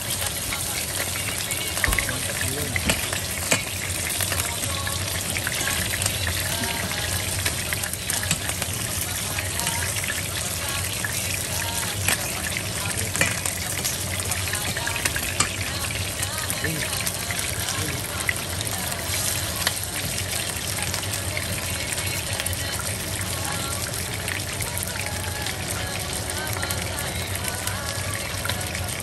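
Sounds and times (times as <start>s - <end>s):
chicken sizzling in hot oil: 0.0s - 29.0s
oil crackling and popping: 0.0s - 29.0s.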